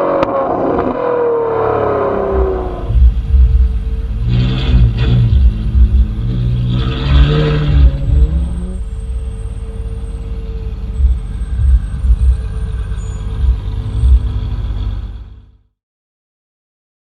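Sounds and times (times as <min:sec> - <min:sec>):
car engine revving: 0:00.0 - 0:15.6
exhaust rumble with thumps: 0:01.8 - 0:15.6.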